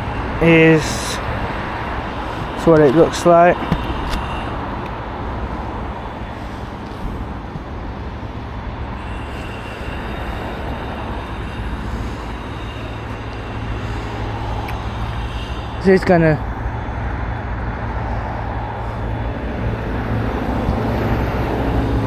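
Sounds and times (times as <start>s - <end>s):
vehicle running hum: 0.0s - 22.0s.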